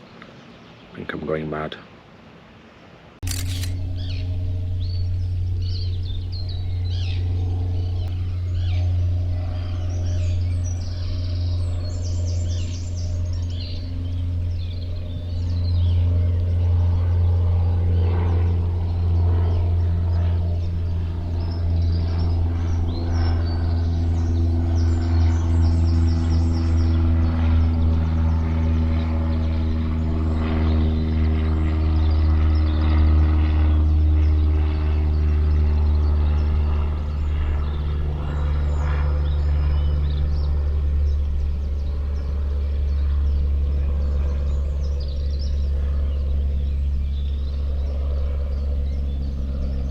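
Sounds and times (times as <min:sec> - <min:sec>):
motor humming with drifting tones: 0:03.2 - 0:49.9
bird chirping: 0:03.3 - 0:49.9.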